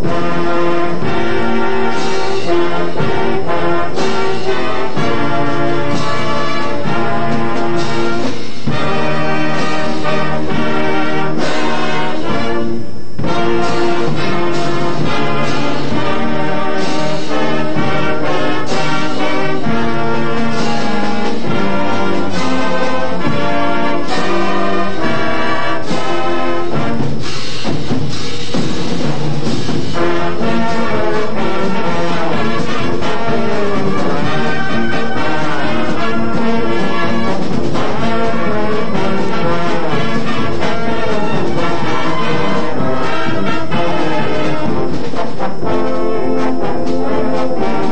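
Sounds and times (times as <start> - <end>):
marching band playing brass piece: 0.0 - 47.9
trombones and trumpets: 0.0 - 47.9.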